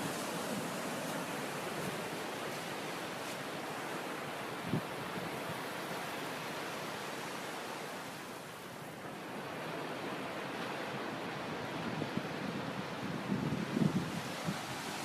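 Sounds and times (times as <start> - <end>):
sea waves breaking on beach: 0.0 - 15.0.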